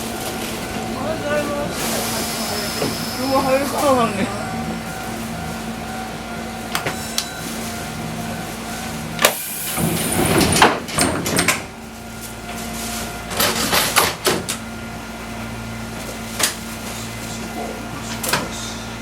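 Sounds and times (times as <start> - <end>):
train car low hum: 0.0 - 19.0.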